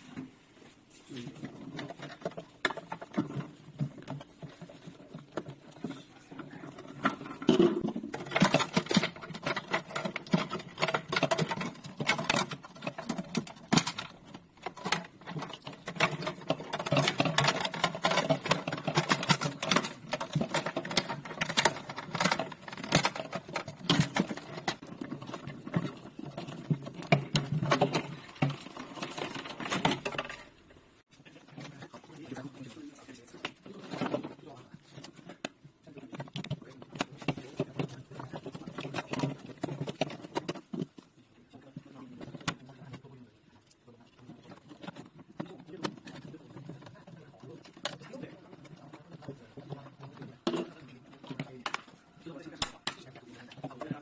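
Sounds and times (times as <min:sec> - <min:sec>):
plastic parts clicking and scraping: 0:00.0 - 0:54.0.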